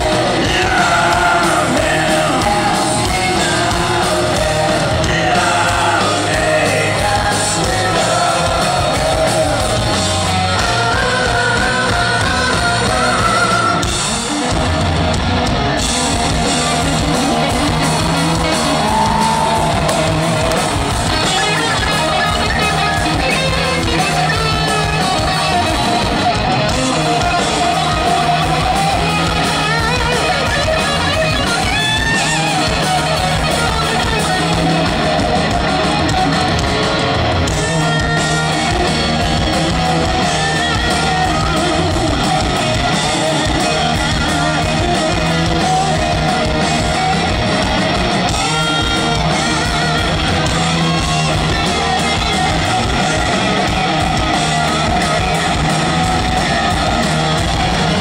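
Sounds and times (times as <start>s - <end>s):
electric guitar: 0.0s - 58.0s
hard rock band playing: 0.0s - 58.0s.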